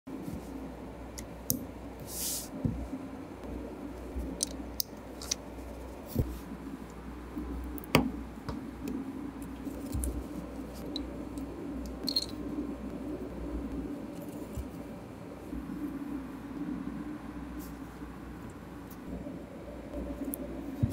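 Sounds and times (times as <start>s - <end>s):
steady low hum: 0.1s - 20.9s.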